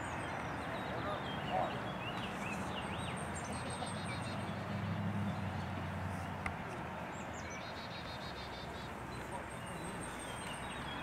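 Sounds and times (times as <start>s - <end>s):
open-air background noise: 0.0s - 11.0s
songbirds chirping and trilling: 0.0s - 11.0s.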